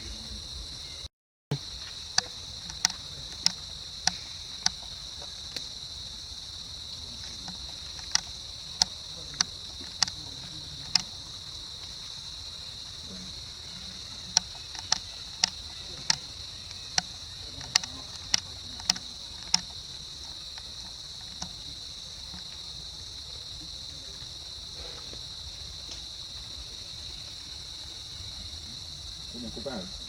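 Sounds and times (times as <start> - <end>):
insects chirping chorus: 0.0 - 30.0.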